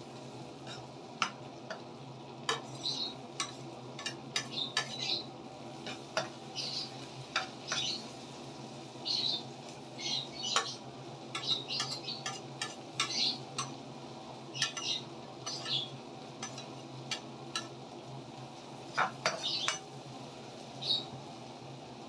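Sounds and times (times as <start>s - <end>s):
spatula scraping wok: 0.0s - 9.4s, 10.0s - 18.0s, 18.8s - 20.0s.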